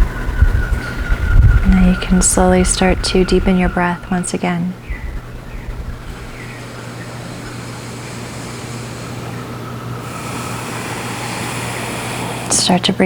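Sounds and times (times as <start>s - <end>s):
low hum: 0.0s - 13.0s
steady background hiss: 0.0s - 13.0s.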